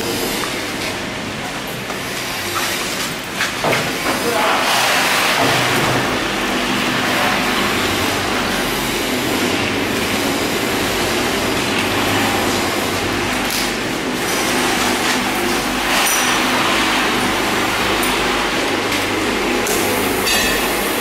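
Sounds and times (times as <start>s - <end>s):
roasting machine rattle and hum: 0.0s - 21.0s.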